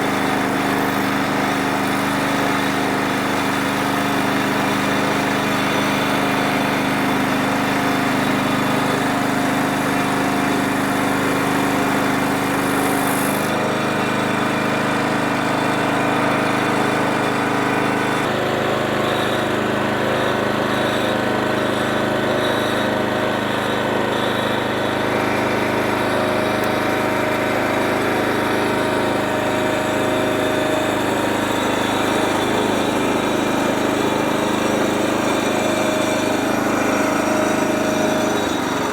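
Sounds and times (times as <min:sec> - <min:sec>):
saw cutting through log: 0:00.0 - 0:38.9
sawmill engine running: 0:00.0 - 0:38.9.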